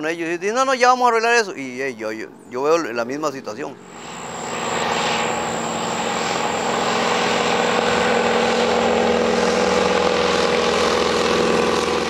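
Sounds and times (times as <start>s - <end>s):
propeller plane droning: 1.4s - 12.0s.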